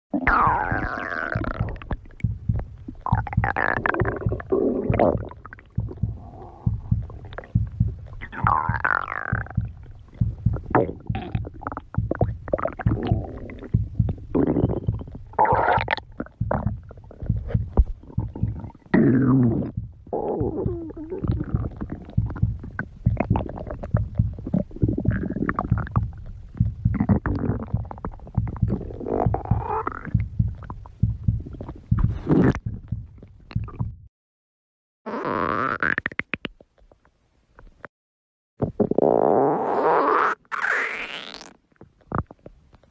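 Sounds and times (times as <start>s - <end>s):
stomach growling: 0.1s - 34.0s, 38.6s - 42.9s.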